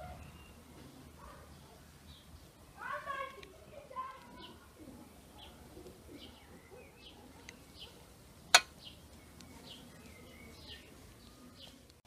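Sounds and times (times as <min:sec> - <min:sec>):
small bird chirping: 0:01.6 - 0:12.0.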